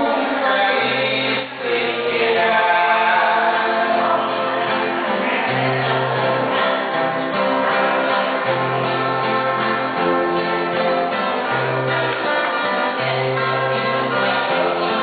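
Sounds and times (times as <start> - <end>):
men singing in harmony: 0.0 - 15.0
strummed acoustic guitars: 0.0 - 15.0.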